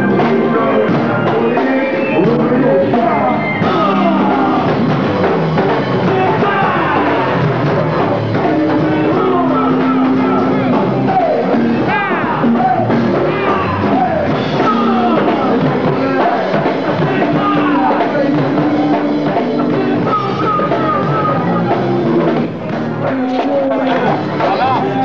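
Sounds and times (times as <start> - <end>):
band playing groove: 0.0 - 25.0
person singing: 0.0 - 25.0.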